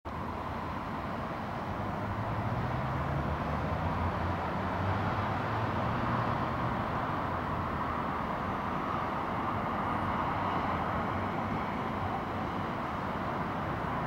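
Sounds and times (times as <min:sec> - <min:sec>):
distant road traffic: 0:00.1 - 0:14.0.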